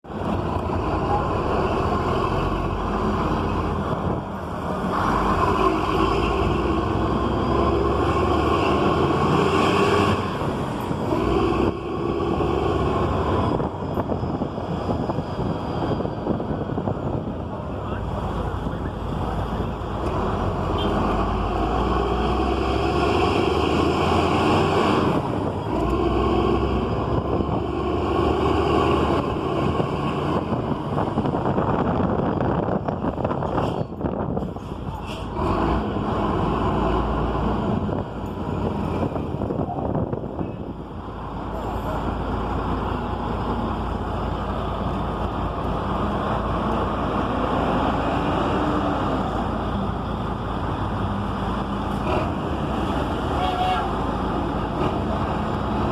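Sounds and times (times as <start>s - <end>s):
diesel coach engine running: 0.0s - 55.9s.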